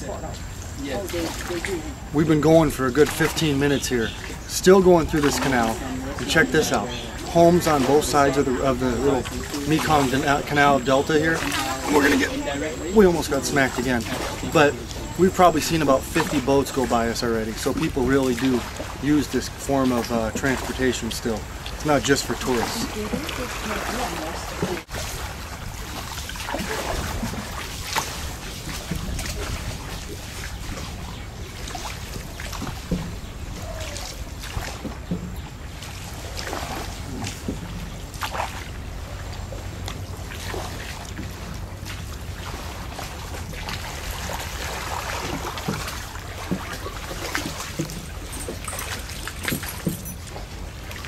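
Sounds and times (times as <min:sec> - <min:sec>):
paddles splashing in water: 0:00.0 - 0:51.0
water sloshing around boats: 0:00.0 - 0:51.0.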